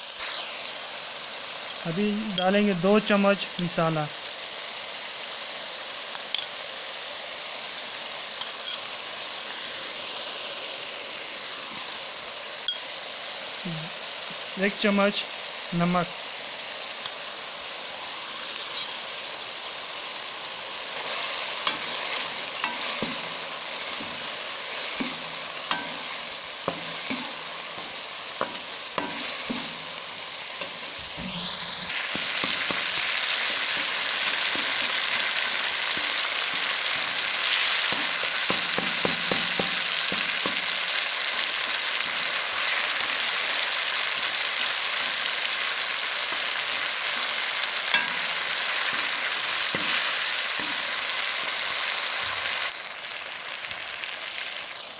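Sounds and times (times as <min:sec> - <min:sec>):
masala sizzling in oil: 0:00.0 - 0:54.9.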